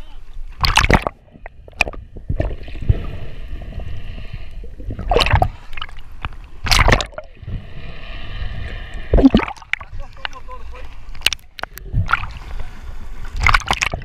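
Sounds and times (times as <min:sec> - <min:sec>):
water splashes: 0:00.0 - 0:14.0
water sloshing and gurgling: 0:00.2 - 0:14.0.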